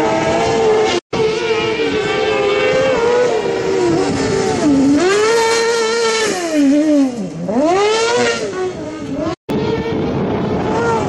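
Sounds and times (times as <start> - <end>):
buggy engine revving high: 0.0 - 11.0.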